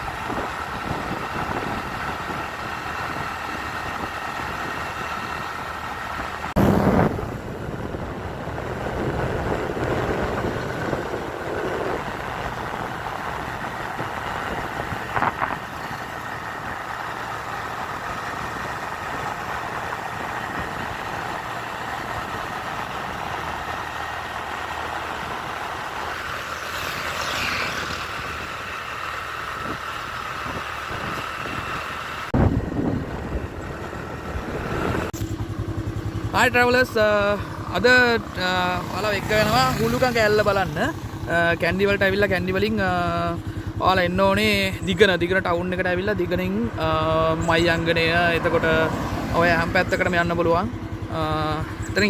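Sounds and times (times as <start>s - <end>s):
motor vehicle running: 0.0s - 52.0s.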